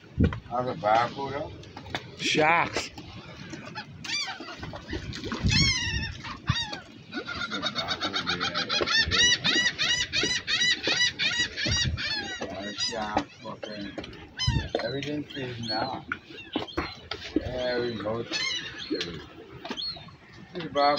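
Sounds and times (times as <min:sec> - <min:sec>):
seabirds calling: 0:00.0 - 0:20.9.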